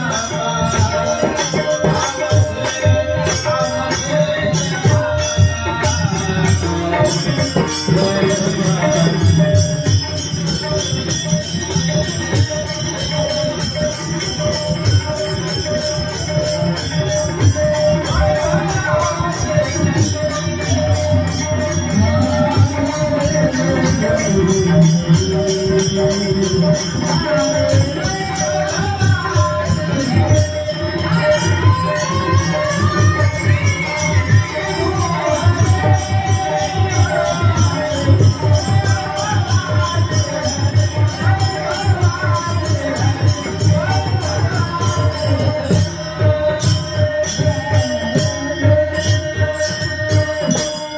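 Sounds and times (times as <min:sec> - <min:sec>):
held harmonium note: 0:00.0 - 0:50.9.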